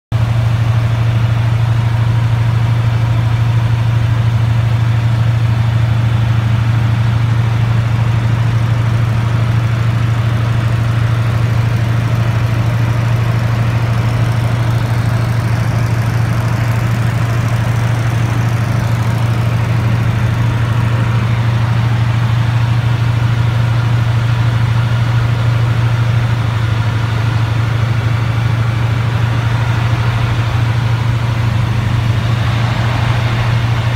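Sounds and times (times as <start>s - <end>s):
aircraft engine and propeller droning: 0.2s - 33.9s.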